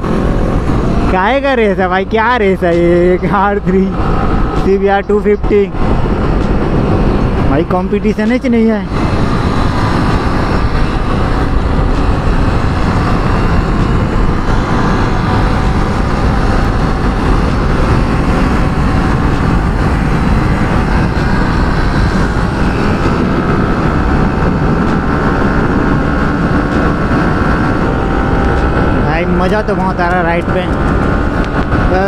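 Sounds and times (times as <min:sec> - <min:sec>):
motorcycle engine: 0:00.0 - 0:32.0
wind rushing over microphone: 0:00.0 - 0:32.0.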